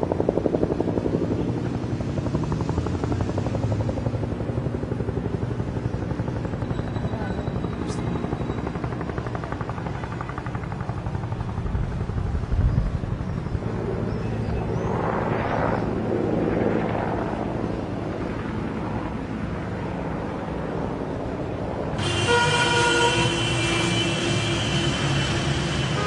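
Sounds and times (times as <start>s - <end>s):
helicopter rotor chopping: 0.0s - 26.0s.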